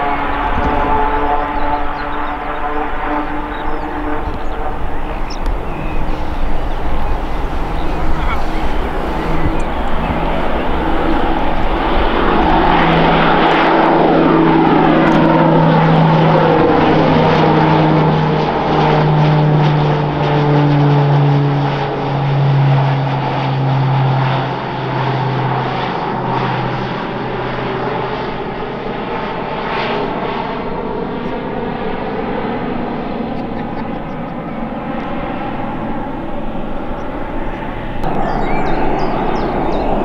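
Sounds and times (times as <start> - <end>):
turboprop aircraft propeller drone: 0.0 - 40.0.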